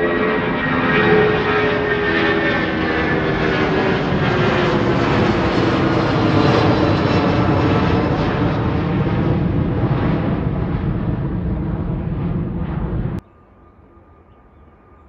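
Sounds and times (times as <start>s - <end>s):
airliner engines whining: 0.0s - 15.0s.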